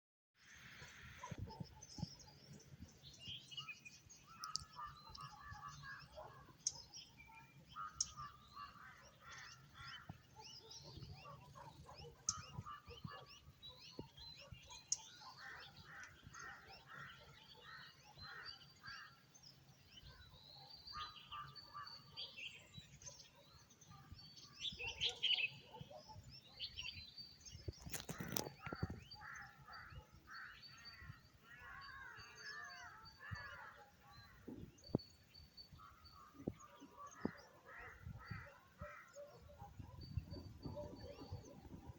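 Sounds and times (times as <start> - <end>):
birds chirping and trilling: 0.4 - 41.9.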